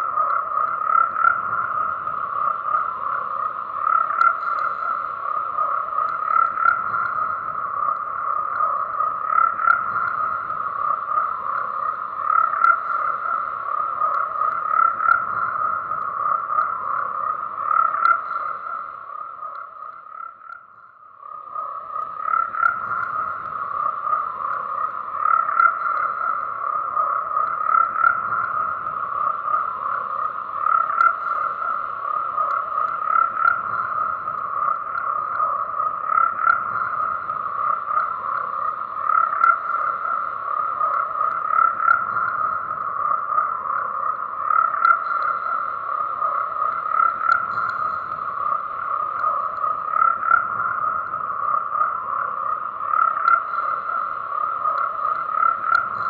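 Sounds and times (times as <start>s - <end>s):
frogs croaking: 0.0s - 56.0s.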